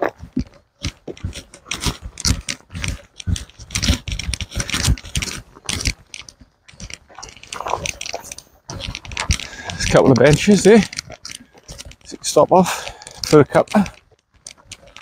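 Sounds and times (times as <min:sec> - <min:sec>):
footsteps on gravel and leaves: 0:00.0 - 0:15.0.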